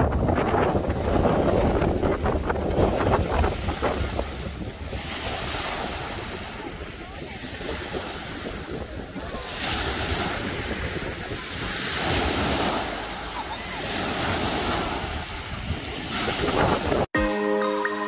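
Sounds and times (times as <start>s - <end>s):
wind buffeting microphone: 0.0s - 17.1s
waves washing up pebble beach: 0.7s - 17.1s.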